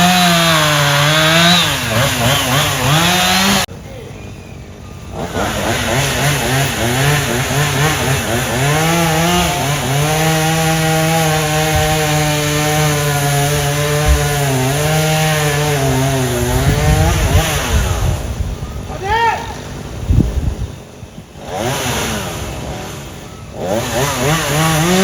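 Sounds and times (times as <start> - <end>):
chainsaw cutting wood: 0.0 - 3.7, 5.1 - 18.3, 21.4 - 25.0.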